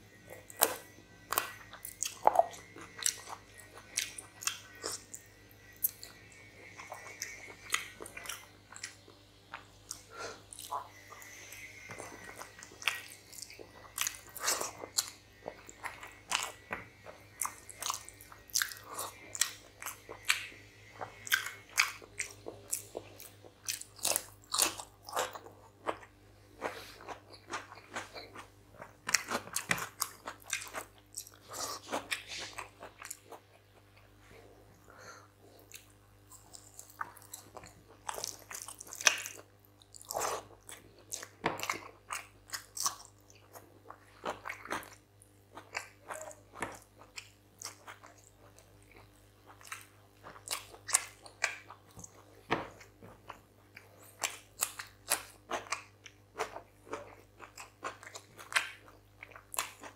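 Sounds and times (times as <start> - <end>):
person chewing and crunching: 0.1 - 59.9.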